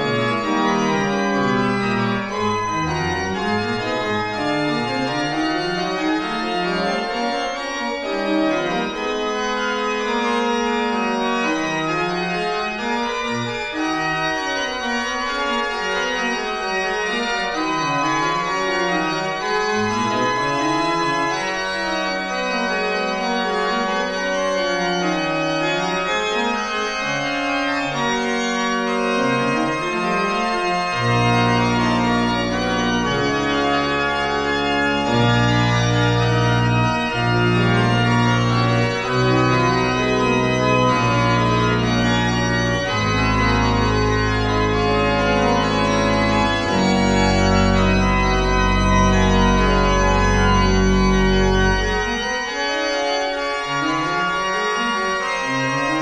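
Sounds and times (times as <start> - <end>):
church organ playing: 0.0 - 56.0.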